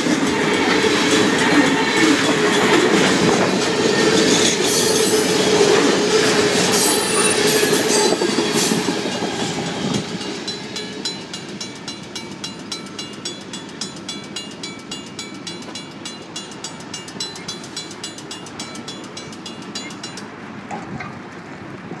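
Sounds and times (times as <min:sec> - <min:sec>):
crossing bell ringing: 0:00.0 - 0:20.5
freight cars rolling on rails: 0:00.0 - 0:22.0.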